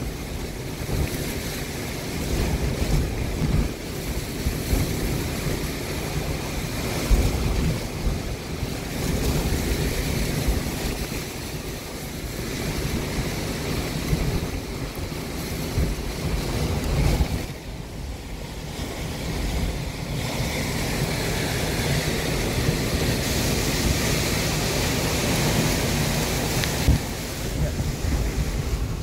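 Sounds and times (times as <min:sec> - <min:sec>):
rushing wind hiss: 0:00.0 - 0:29.0
wind buffeting microphone: 0:00.0 - 0:29.0.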